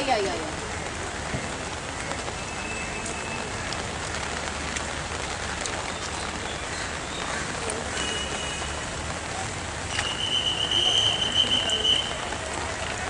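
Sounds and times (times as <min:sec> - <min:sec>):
rain hiss: 0:00.0 - 0:13.0
raindrops ticking: 0:00.0 - 0:13.0.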